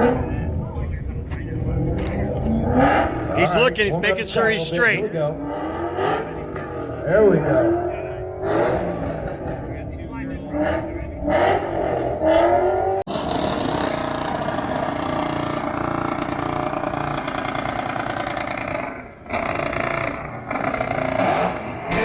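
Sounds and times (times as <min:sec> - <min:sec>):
car engine revving hard: 0:02.5 - 0:04.2, 0:05.2 - 0:09.7, 0:10.5 - 0:22.0.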